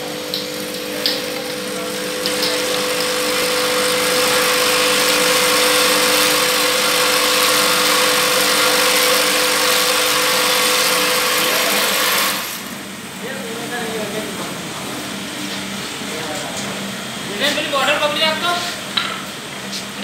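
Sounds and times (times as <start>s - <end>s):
vibratory feeder humming: 0.0s - 20.0s.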